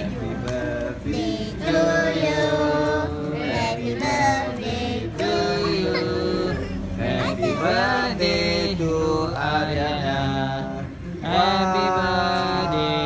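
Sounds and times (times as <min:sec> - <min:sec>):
children and women singing: 0:00.0 - 0:13.0.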